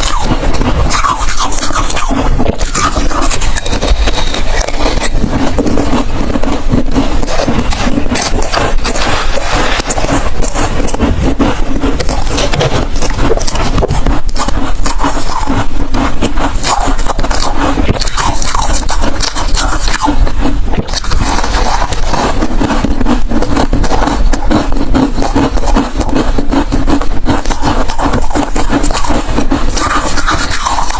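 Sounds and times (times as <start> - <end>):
ice being chewed: 0.0 - 30.9.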